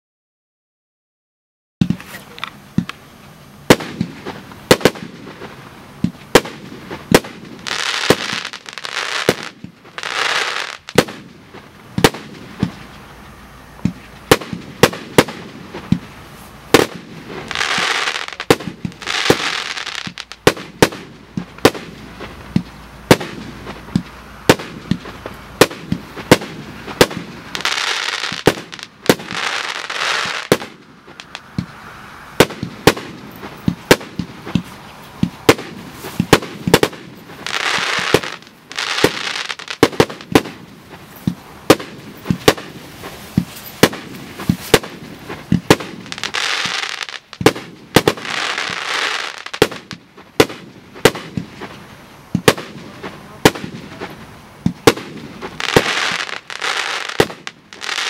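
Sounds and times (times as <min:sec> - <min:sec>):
fireworks bangs: 0:01.8 - 0:58.0
rushing hiss: 0:01.9 - 0:58.0.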